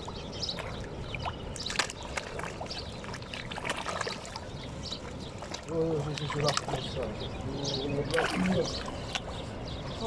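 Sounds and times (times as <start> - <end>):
birds chirping and calling: 0.0 - 10.0
water lapping: 0.0 - 10.0.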